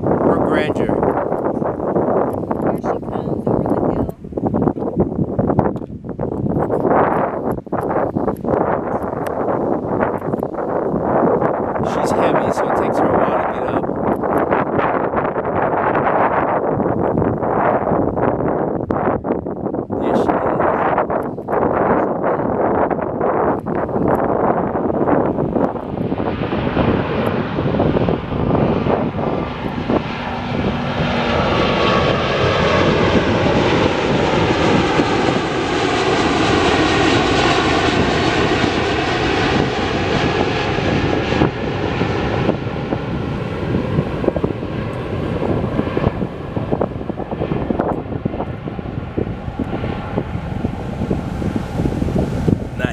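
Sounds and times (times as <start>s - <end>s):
jet airliner passing overhead: 0.0s - 52.9s.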